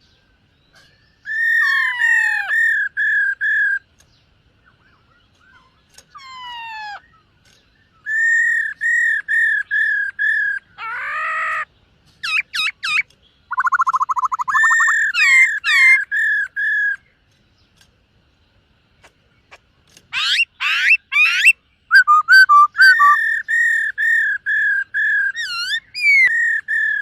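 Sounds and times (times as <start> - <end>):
bird singing whistled notes: 0.0 - 10.9, 12.2 - 17.6, 20.1 - 27.0.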